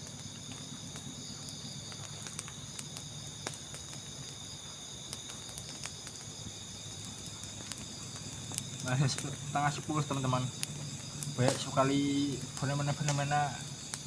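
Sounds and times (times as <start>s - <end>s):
crickets and insects chirring: 0.0s - 14.0s.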